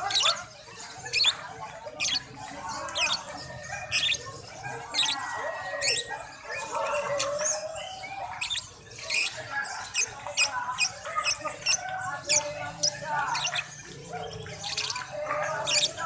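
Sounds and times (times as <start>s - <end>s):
lovebirds chirping: 0.0s - 16.0s
people talking: 0.0s - 16.0s.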